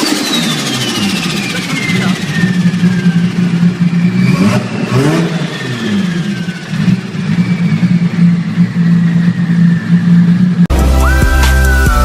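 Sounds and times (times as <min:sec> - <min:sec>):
car engine running: 0:00.0 - 0:12.0
high whine falling in pitch: 0:00.0 - 0:12.0.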